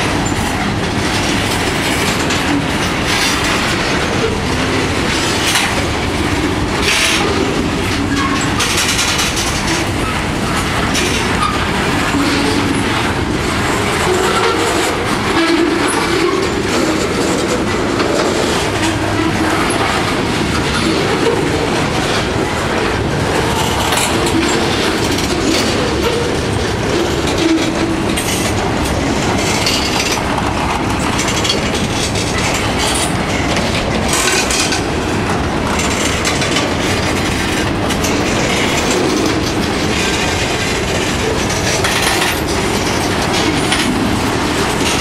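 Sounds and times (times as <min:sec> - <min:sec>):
train cars rumbling past: 0:00.0 - 0:45.0
wheels clacking over rails: 0:00.0 - 0:45.0.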